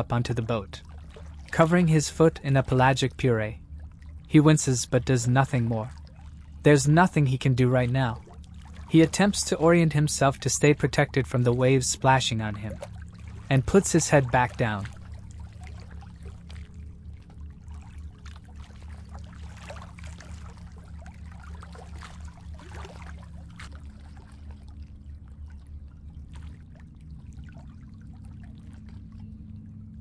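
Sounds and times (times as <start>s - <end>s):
low steady drone: 0.0s - 30.0s
small waves lapping: 0.0s - 30.0s.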